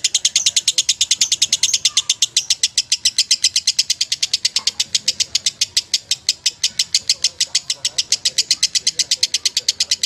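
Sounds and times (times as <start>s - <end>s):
lovebird chattering song: 0.0s - 10.0s.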